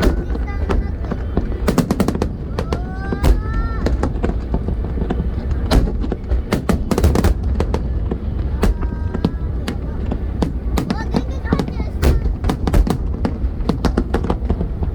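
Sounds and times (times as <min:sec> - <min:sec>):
firework bangs and crackles: 0:00.0 - 0:14.9
low rumble: 0:00.0 - 0:14.9.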